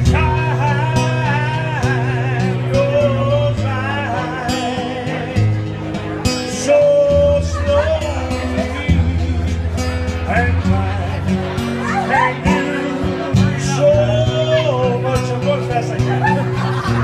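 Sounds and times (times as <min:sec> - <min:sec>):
man singing with vibrato: 0:00.0 - 0:16.9
guitar accompaniment: 0:00.0 - 0:17.0.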